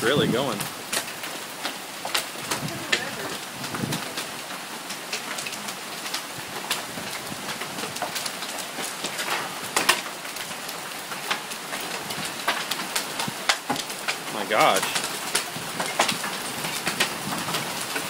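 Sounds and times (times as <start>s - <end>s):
hailstones clicking: 0.0s - 18.0s
heavy rain pouring: 0.0s - 18.0s.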